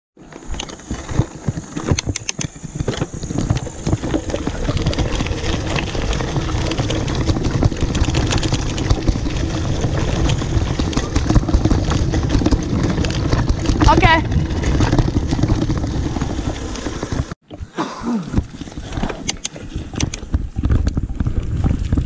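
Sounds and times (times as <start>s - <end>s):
bike clicks and knocks: 0.2s - 17.3s, 18.9s - 22.0s
bike tyres rumbling on dirt: 0.2s - 22.0s.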